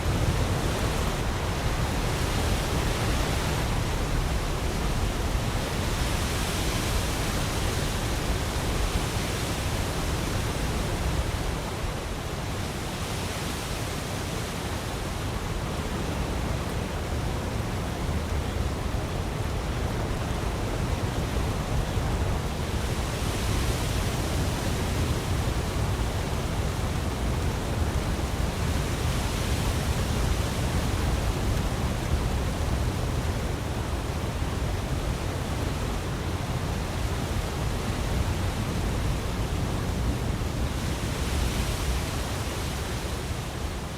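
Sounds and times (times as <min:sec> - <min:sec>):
snowmelt water rushing: 0:00.0 - 0:43.9.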